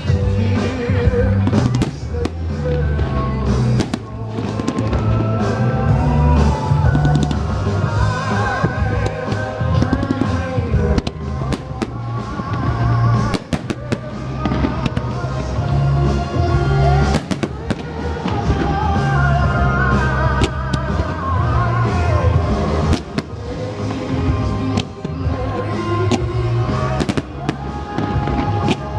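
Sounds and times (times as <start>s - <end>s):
christmas pop song: 0.0s - 28.9s
fireworks banging and crackling: 0.0s - 28.9s.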